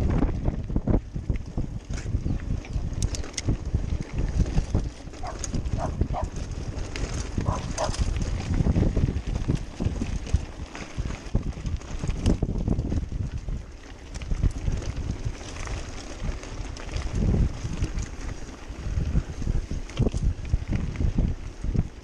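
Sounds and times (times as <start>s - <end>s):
mountain bike rattling: 0.0s - 22.0s
wind buffeting microphone: 0.0s - 22.0s.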